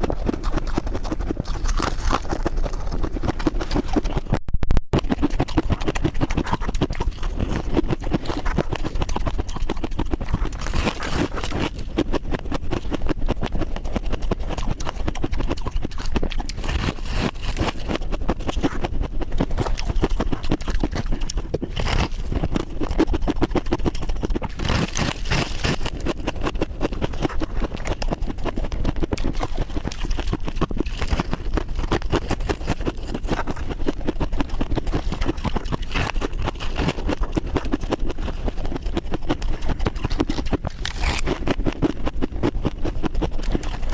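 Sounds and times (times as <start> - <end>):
ice crunched in mouth: 0.0 - 4.4, 5.0 - 43.9.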